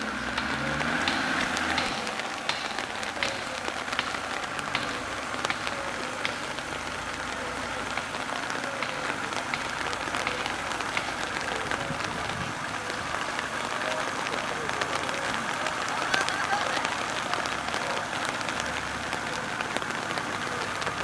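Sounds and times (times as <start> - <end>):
rain pattering: 0.0 - 21.0
truck engine running low: 0.0 - 21.0.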